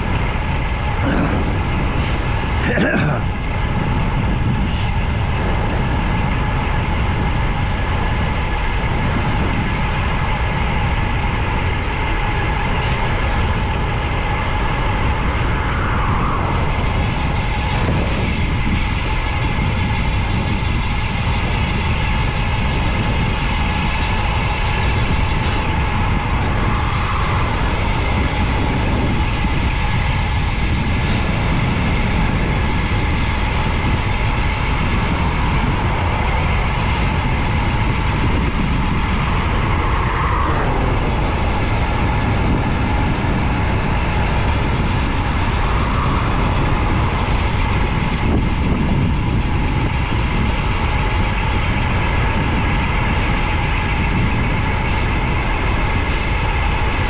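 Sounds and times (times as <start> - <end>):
whining tone: 0.0 - 57.0
wind rushing over microphone: 0.0 - 57.0.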